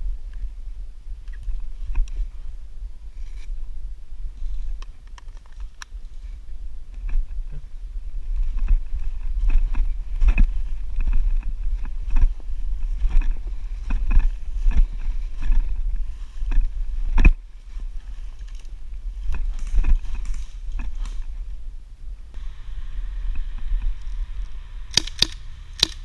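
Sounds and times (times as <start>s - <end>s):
wind rumble: 0.0s - 26.0s.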